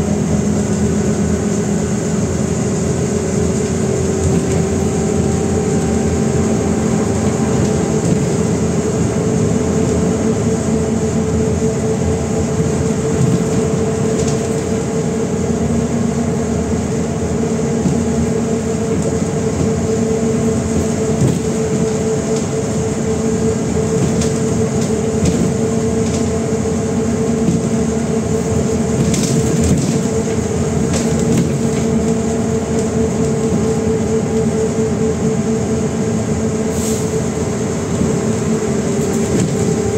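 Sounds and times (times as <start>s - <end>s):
bus drivetrain whine and hum: 0.0s - 39.9s.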